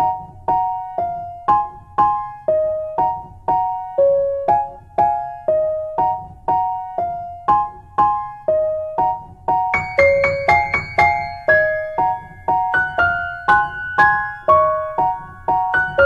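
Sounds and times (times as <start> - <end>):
soft piano keyboard melody: 0.0 - 16.0.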